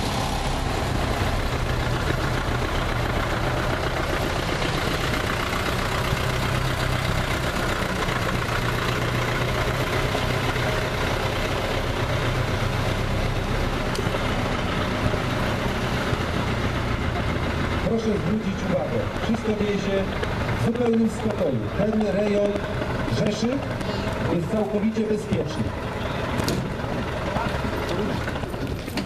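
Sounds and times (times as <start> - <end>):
vehicle engines running: 0.0 - 29.0.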